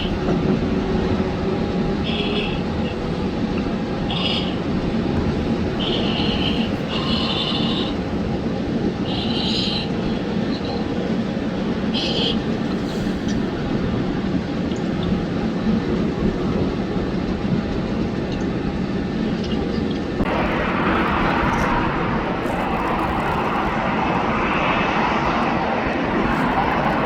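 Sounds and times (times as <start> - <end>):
airliner engine rumble: 0.0 - 27.0.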